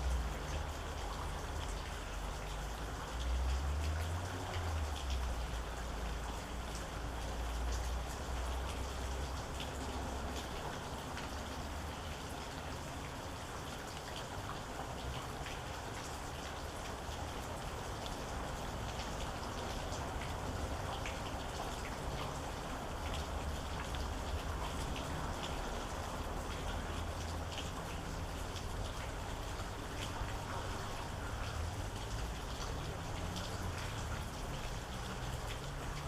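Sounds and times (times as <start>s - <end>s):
rain drops on hard surface: 0.0s - 36.0s.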